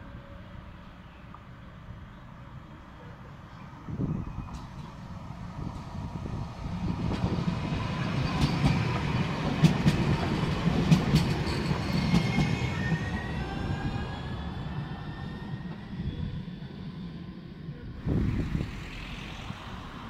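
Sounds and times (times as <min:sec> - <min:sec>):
tram wheels rumbling on rails: 0:03.7 - 0:20.0.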